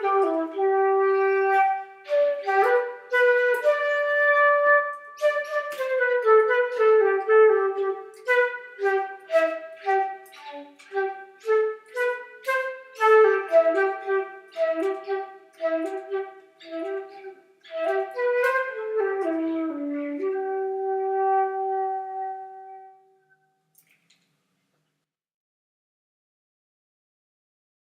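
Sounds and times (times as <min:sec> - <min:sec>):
wind instrument melody: 0:00.0 - 0:23.3.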